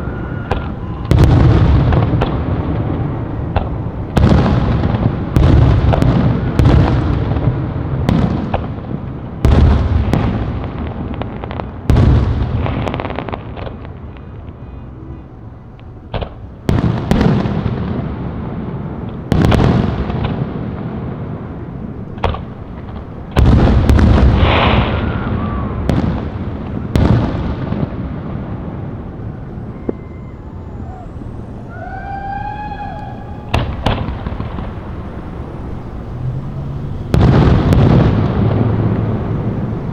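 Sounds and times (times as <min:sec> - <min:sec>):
fireworks booming: 0:00.0 - 0:15.1, 0:15.7 - 0:39.9
fireworks crackling: 0:00.0 - 0:39.9.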